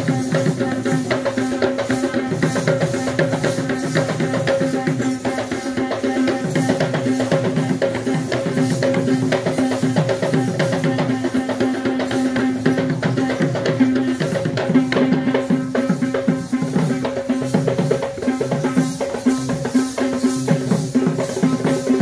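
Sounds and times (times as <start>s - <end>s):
fast rhythmic drumming: 0.0s - 22.0s.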